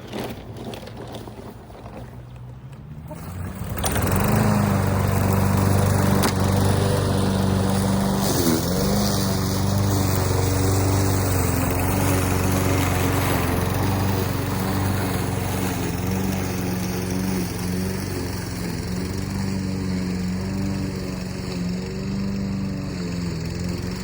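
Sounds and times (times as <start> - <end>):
push mower engine running: 0.0 - 24.0.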